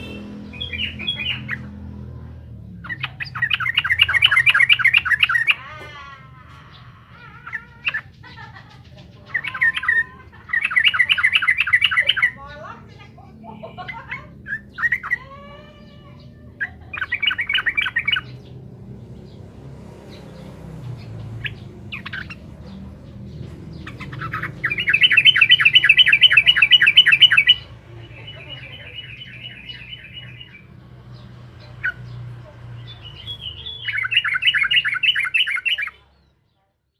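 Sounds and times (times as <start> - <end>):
bird singing chattering runs: 2.7 - 5.6, 7.5 - 15.2, 17.0 - 36.4.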